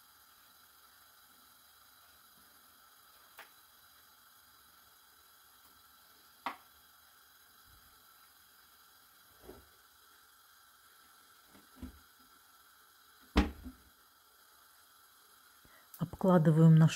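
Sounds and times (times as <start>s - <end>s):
faint hiss: 0.0s - 16.9s.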